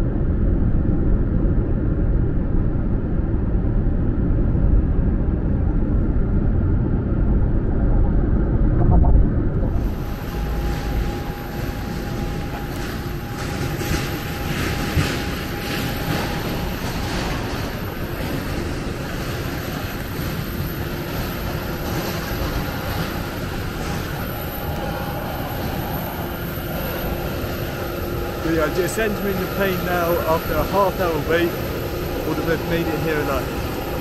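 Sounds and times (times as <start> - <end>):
jet airliners and ground equipment: 0.0 - 34.0.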